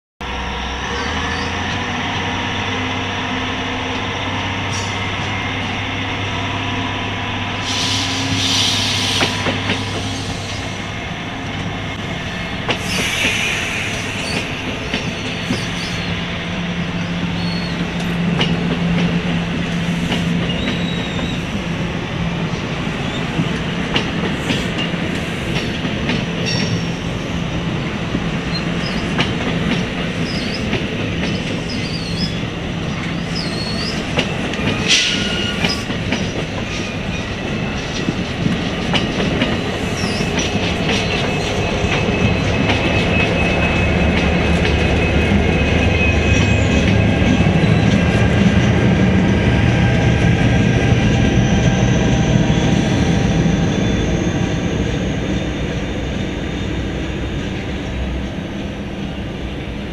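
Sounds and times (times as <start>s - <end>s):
train rolling past: 0.2s - 59.9s.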